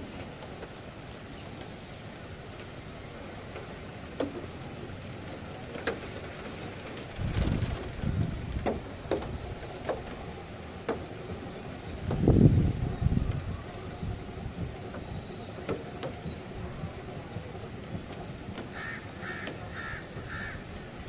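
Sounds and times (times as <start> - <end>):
rain and wind hiss: 0.0 - 21.0
wind gusts buffeting microphone: 2.1 - 21.0.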